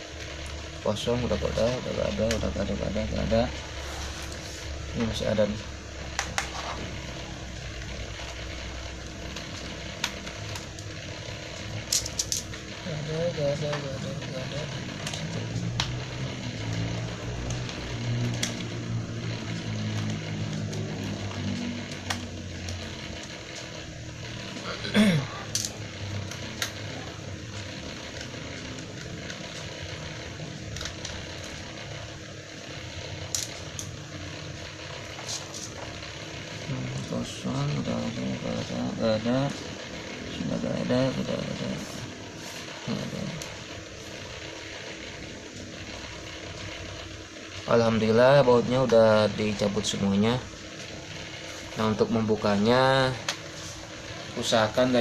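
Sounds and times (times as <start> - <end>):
low background hum: 0.0 - 55.0
steady background noise: 0.0 - 55.0.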